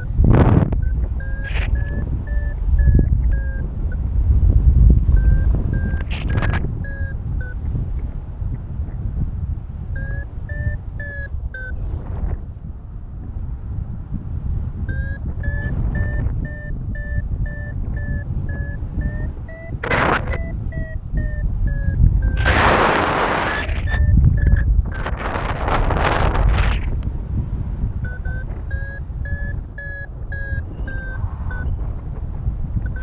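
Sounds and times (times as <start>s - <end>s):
variometer beeping: 0.0s - 12.3s, 14.8s - 33.0s
wind on microphone: 0.0s - 33.0s.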